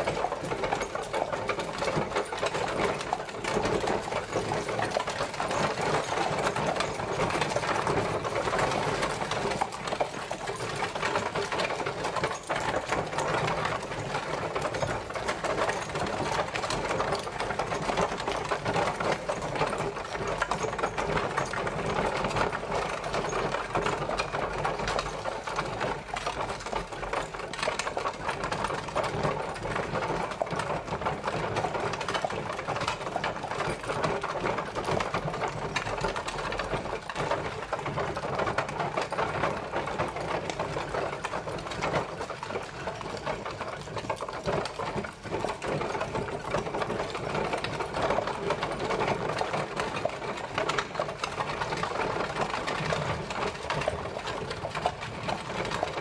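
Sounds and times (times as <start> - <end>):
carriage wheels rattling: 0.0 - 56.0.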